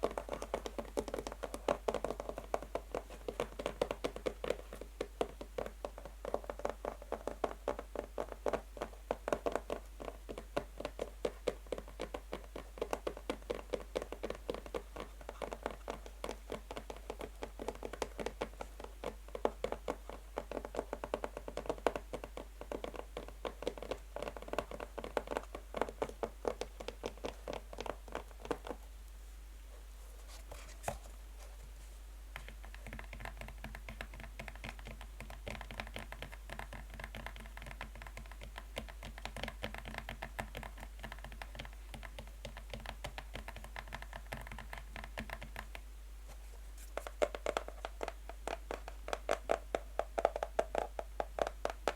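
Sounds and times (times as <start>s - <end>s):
fingernails tapping on a box: 0.0s - 28.8s, 32.4s - 45.8s, 47.0s - 51.9s.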